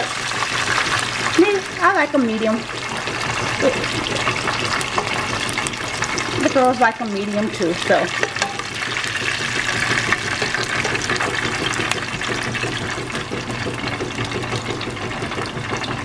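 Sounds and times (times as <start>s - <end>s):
wings deep-frying in oil: 0.0s - 16.0s.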